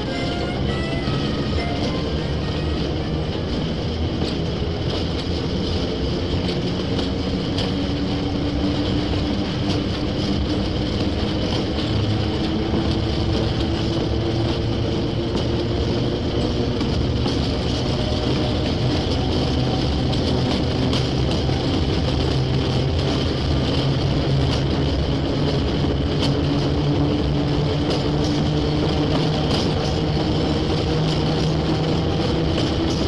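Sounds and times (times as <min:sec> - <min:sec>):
train rumbling on rails: 0:00.0 - 0:33.0.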